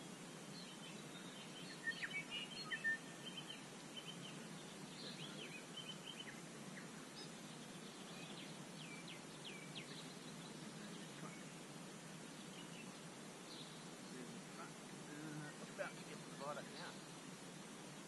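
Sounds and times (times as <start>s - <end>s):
low background hiss: 0.0s - 18.0s
birds chirping and calling: 0.6s - 11.6s, 12.2s - 17.2s.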